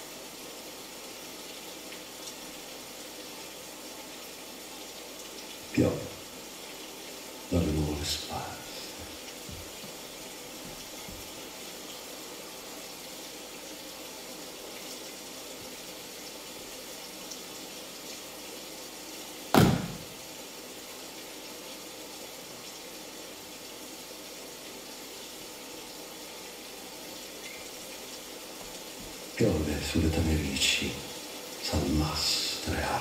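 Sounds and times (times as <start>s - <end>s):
rain hissing: 0.0s - 33.0s.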